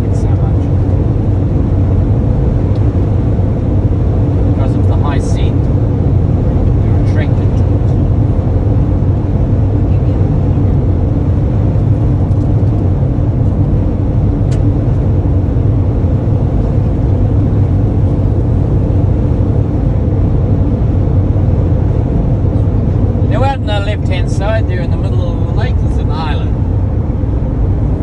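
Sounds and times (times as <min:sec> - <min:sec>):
van engine and road drone: 0:00.0 - 0:28.0.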